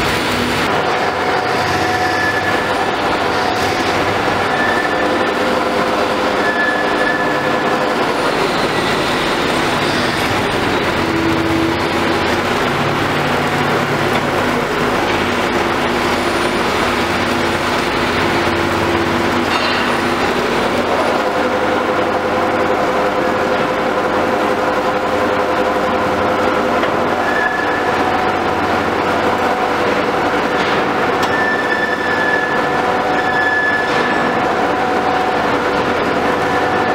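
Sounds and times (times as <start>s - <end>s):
gasoline engine running: 0.0s - 36.9s.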